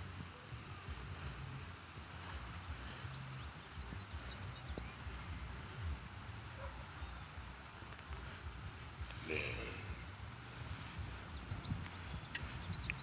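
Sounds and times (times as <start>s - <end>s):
bird chirping: 1.3s - 13.0s
high-pitched insect trill: 2.5s - 13.0s.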